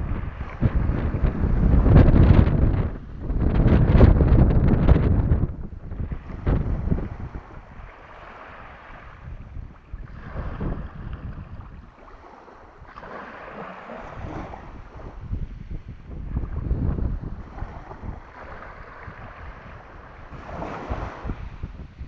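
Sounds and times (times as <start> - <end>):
sea waves washing in: 0.0 - 22.0
wind buffeting the microphone: 0.0 - 22.0.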